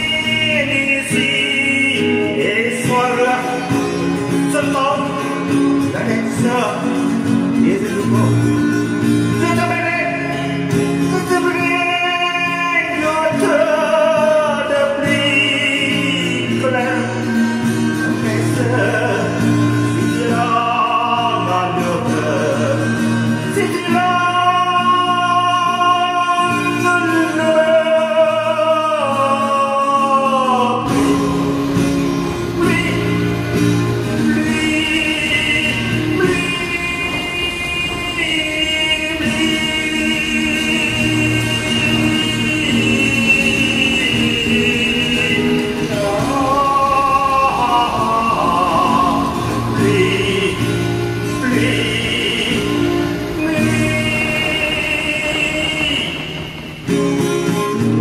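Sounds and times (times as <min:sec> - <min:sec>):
acoustic guitar: 0:00.0 - 0:58.0
man singing: 0:00.0 - 0:58.0.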